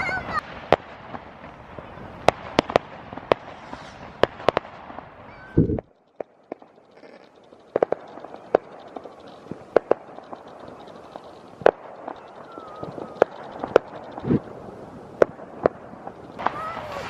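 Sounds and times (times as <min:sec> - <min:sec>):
fireworks bangs and pops: 0:00.0 - 0:17.0
hiss of distant fireworks: 0:00.0 - 0:17.0.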